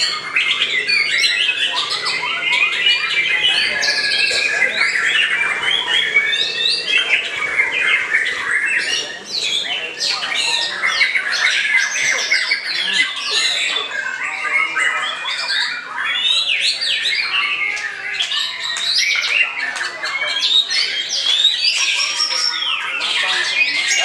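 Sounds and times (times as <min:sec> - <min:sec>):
other birds singing: 0:00.0 - 0:24.0.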